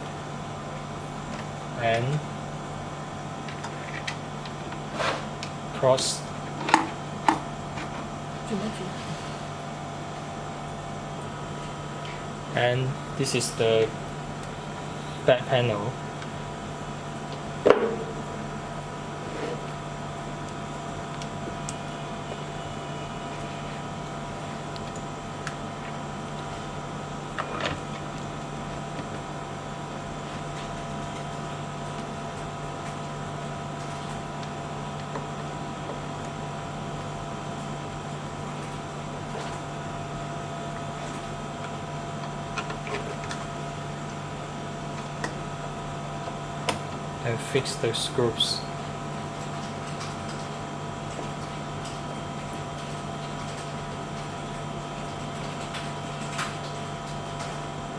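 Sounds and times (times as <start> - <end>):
electrical hum: 0.0 - 57.9.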